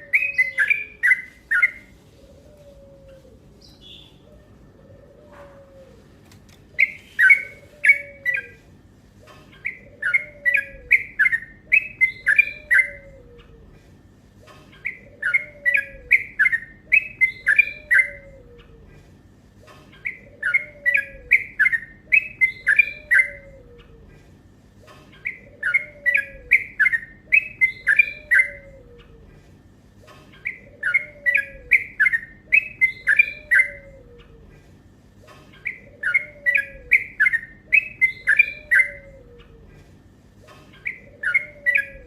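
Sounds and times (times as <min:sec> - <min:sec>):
bird singing chattering song: 0:00.0 - 0:02.0, 0:03.4 - 0:04.7, 0:06.7 - 0:08.6, 0:09.2 - 0:13.7, 0:14.4 - 0:18.8, 0:19.6 - 0:24.0, 0:24.7 - 0:29.3, 0:30.0 - 0:34.5, 0:35.2 - 0:39.7, 0:40.4 - 0:42.0.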